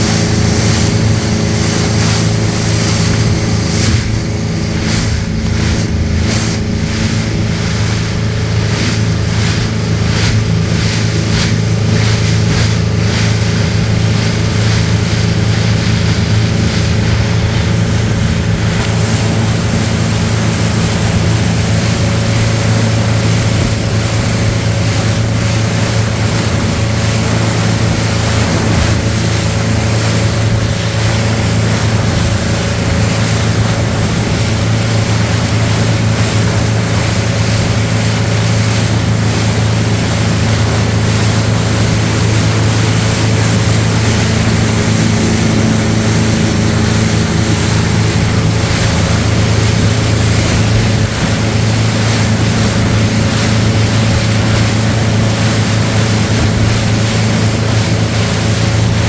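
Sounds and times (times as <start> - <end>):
motorboat engine droning: 0.0 - 59.0
water rushing along hull: 0.0 - 59.0.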